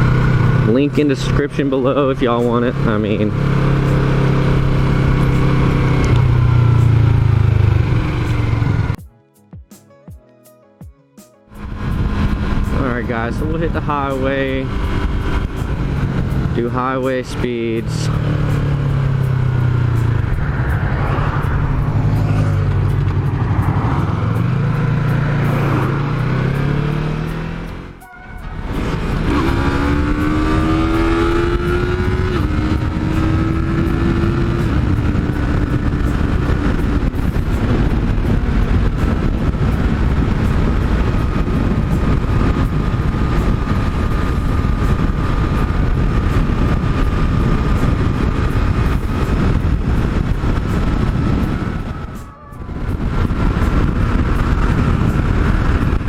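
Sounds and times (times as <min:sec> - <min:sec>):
motorcycle engine accelerating: 0:00.0 - 0:09.0, 0:11.5 - 0:56.0
wind and road noise: 0:00.0 - 0:09.0, 0:11.5 - 0:56.0.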